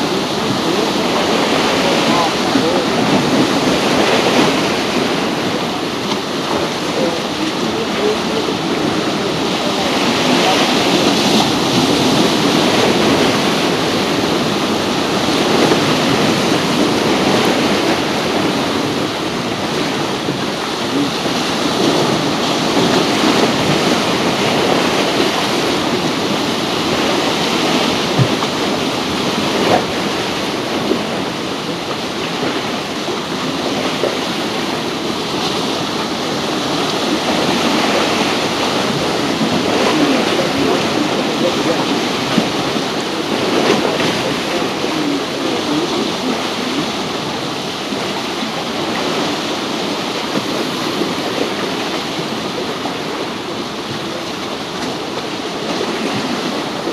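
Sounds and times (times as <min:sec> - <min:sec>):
seawater washing and splashing: 0:00.0 - 0:56.9.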